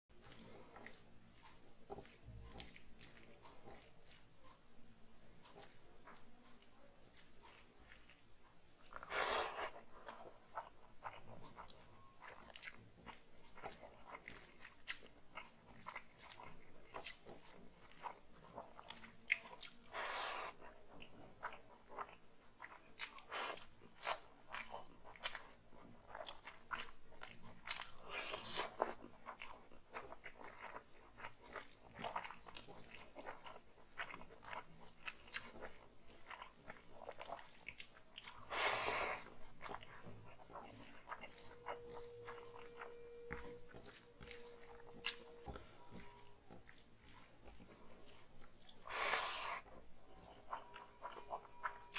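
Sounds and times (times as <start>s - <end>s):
wet chewing and smacking: 0.1s - 51.9s.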